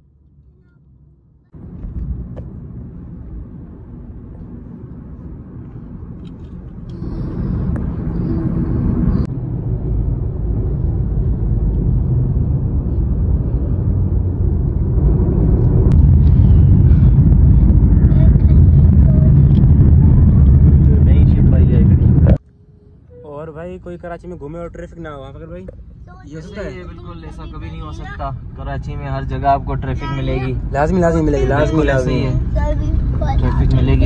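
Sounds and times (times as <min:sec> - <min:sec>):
road and wind noise in moving car: 0:00.0 - 0:34.0.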